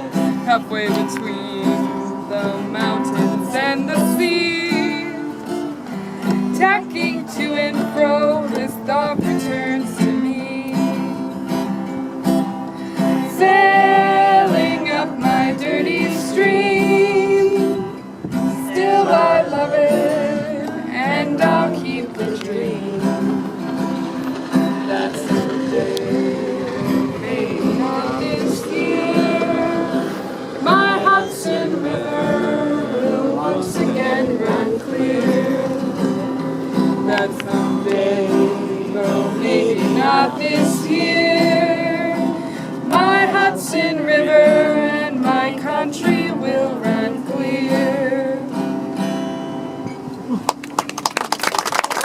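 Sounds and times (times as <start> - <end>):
voices singing folk song: 0.0 - 50.3
strummed acoustic guitar: 0.0 - 50.7.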